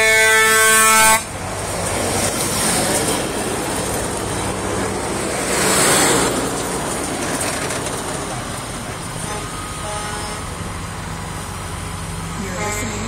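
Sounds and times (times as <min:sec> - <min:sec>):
highway road noise: 0:00.0 - 0:13.0
truck engines humming: 0:00.0 - 0:13.0.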